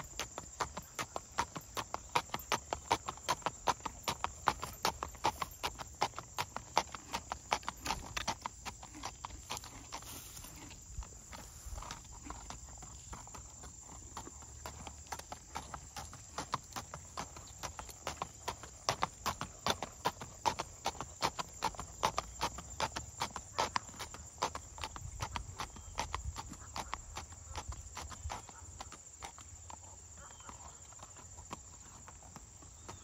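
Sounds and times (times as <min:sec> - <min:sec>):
horse hooves clip-clopping on pavement: 0:00.0 - 0:33.0.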